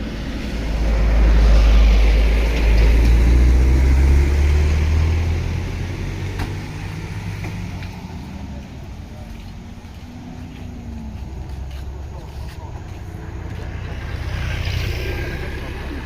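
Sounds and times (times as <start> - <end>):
large vehicle engine running: 0.0 - 16.0.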